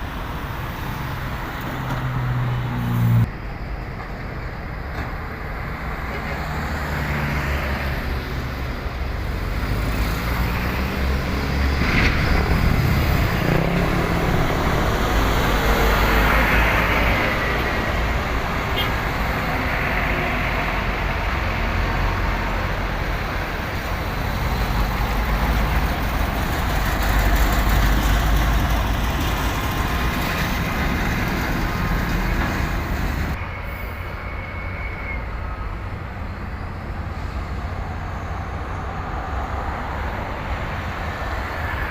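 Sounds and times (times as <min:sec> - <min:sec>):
heavy trucks and traffic rumbling: 0:00.0 - 0:41.9.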